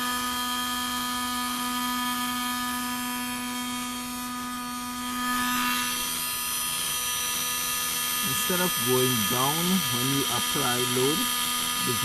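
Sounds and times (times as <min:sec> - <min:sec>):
pump generator whine over hum: 0:00.0 - 0:12.0.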